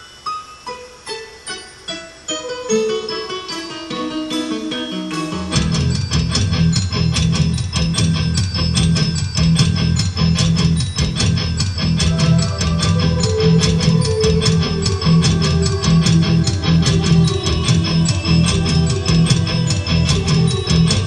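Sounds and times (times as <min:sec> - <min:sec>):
soft keyboard notes: 0:00.0 - 0:21.0
band with guitar and beat: 0:03.6 - 0:21.0.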